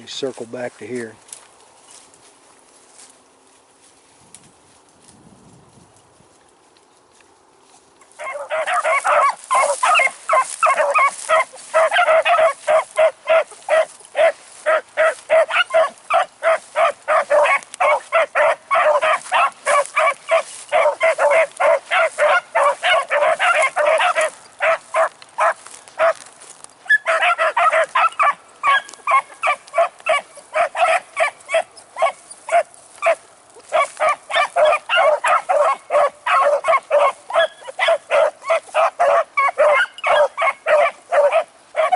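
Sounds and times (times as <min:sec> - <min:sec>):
hounds barking and bawling: 0:08.1 - 0:41.9.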